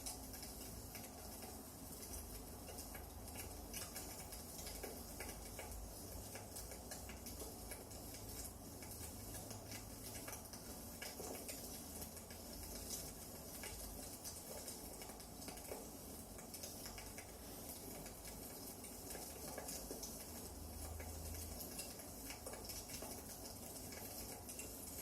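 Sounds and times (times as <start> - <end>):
firewood crackling in fireplace: 0.0 - 25.0.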